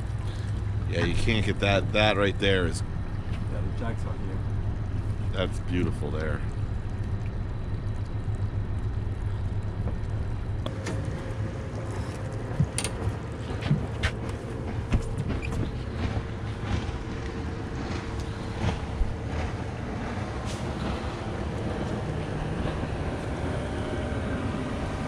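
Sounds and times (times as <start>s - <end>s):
boat motor rumbling: 0.0s - 25.0s
thin steady whine: 0.0s - 25.0s.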